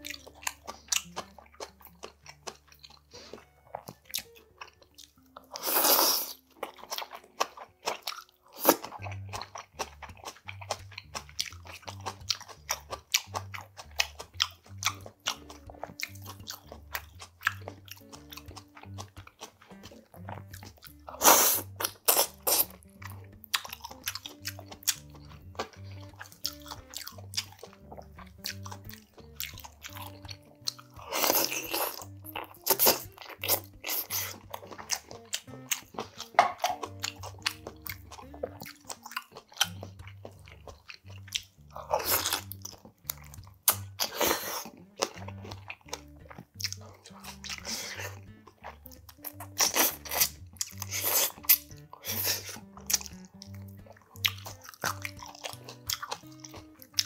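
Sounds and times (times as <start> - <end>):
chewing and crunching food: 0.0 - 57.0
soft background music: 0.0 - 57.0.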